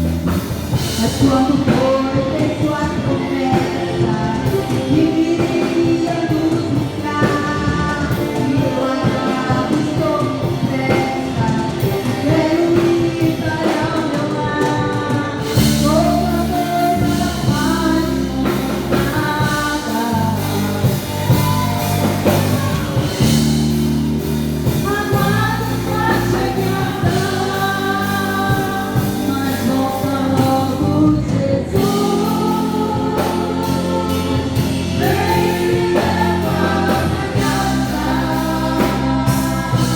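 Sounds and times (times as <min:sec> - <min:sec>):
band playing: 0:00.0 - 0:39.9
bass: 0:00.0 - 0:39.9
voices singing praise song: 0:00.0 - 0:39.9.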